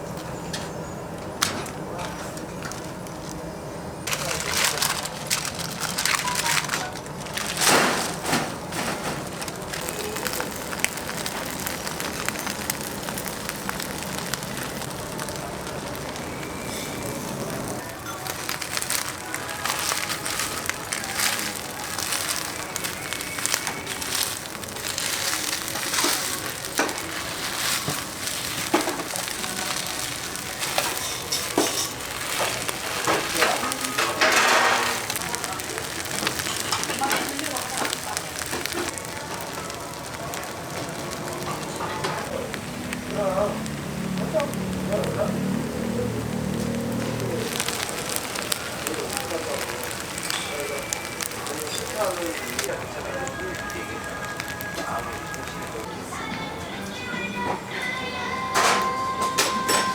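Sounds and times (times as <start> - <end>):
chicken sizzling over fire: 0.0 - 59.9.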